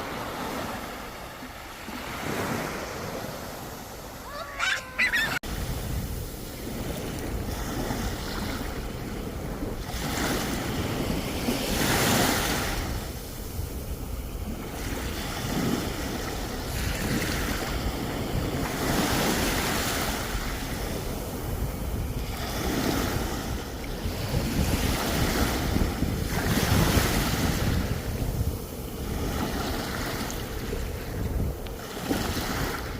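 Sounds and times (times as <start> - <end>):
waves breaking on shore: 0.0 - 32.9
wind buffeting microphone: 2.2 - 32.9.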